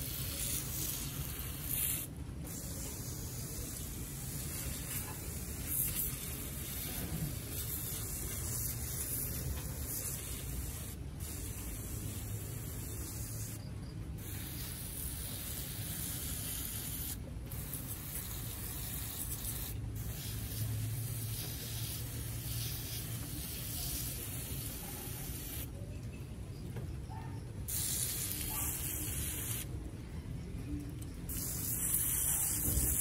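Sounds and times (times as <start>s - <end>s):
water spraying hiss: 0.0s - 13.6s, 14.2s - 25.7s, 27.7s - 29.7s, 31.3s - 33.0s.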